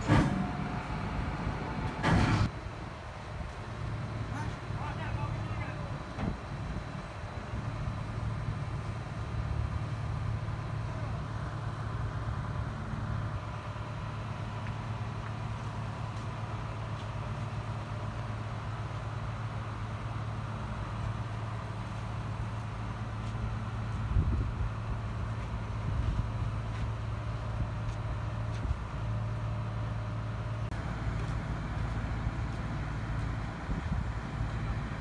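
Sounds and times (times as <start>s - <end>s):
heavy diesel engine droning: 0.0s - 35.0s.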